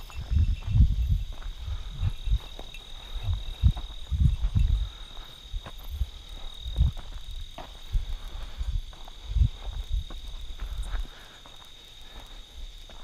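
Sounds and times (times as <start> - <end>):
high insect trill: 0.0 - 13.0
low thuds of footsteps: 0.0 - 13.0.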